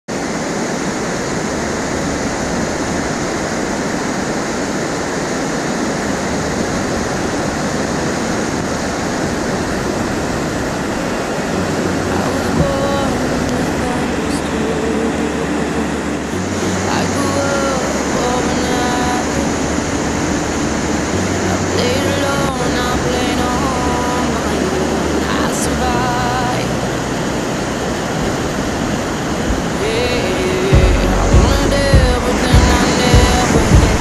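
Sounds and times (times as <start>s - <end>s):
water rushing over rocks: 0.1s - 34.0s.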